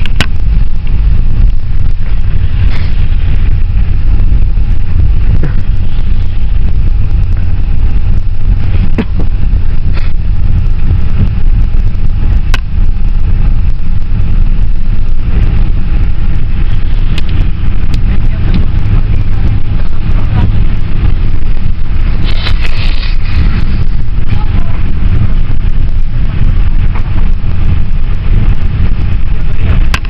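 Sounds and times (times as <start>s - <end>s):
van engine and road noise: 0.0s - 30.0s.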